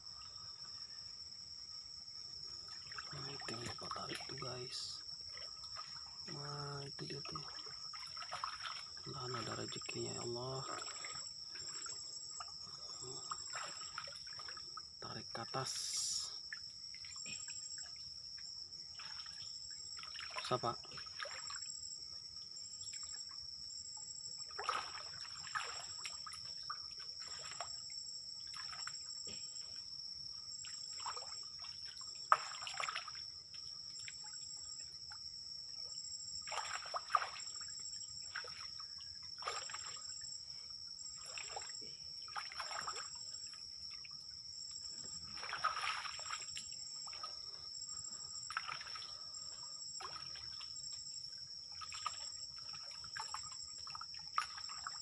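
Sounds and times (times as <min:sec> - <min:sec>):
night insect chorus: 0:00.0 - 0:55.0
water splashing and sloshing: 0:00.0 - 0:55.0.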